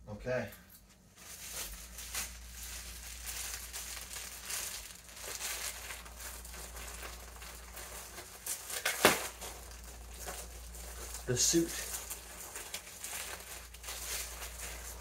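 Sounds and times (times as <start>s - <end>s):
plastic bag crinkling: 1.0s - 15.0s.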